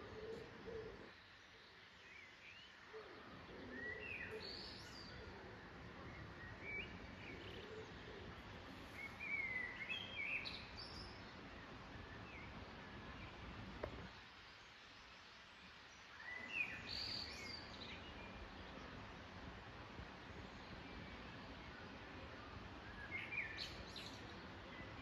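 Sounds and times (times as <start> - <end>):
faint outdoor hiss: 0.0 - 25.0
songbirds singing: 0.0 - 25.0.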